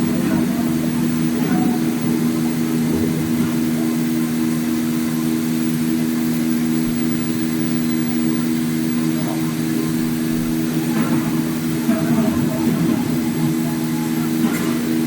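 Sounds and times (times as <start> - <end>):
sawing machine humming: 0.0 - 15.0.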